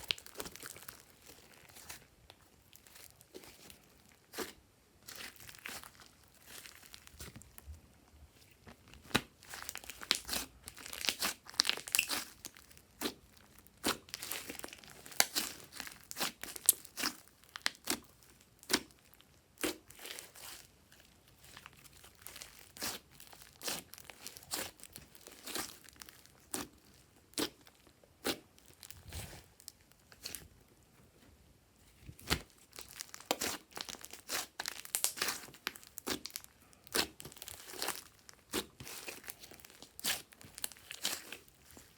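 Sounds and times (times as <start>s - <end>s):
slime squished by hand: 0.0s - 7.6s, 8.6s - 30.5s, 31.9s - 41.9s.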